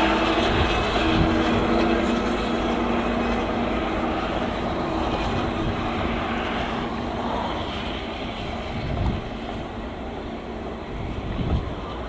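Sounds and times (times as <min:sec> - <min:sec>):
steam locomotive working a train: 0:00.0 - 0:12.0.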